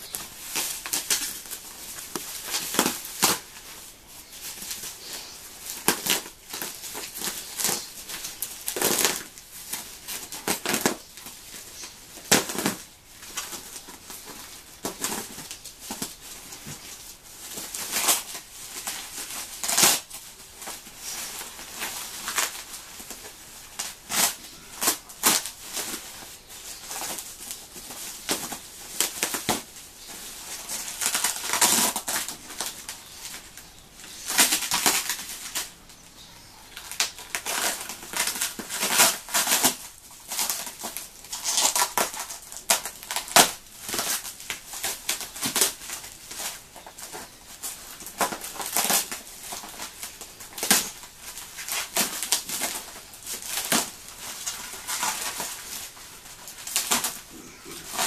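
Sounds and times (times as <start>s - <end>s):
packing material crinkling and tearing: 0.0s - 58.0s.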